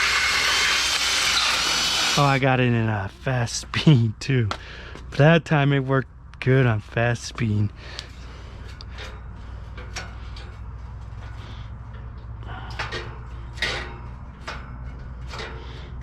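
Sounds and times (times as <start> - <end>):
low steady hum: 1.6 - 16.0.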